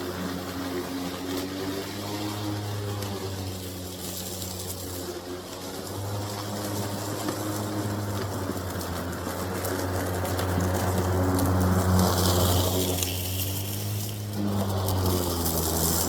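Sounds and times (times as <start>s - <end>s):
lawn mower running: 0.0s - 16.0s.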